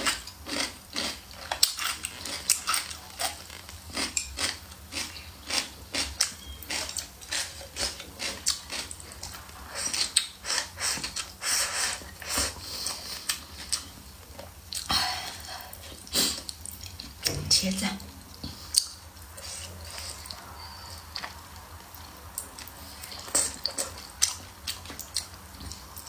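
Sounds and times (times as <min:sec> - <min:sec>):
person chewing food: 0:00.0 - 0:17.3, 0:18.0 - 0:26.0.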